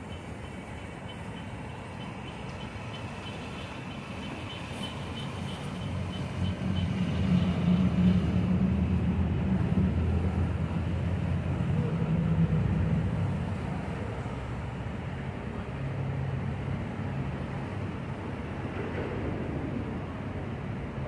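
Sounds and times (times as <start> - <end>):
boat engines droning: 0.0 - 21.0.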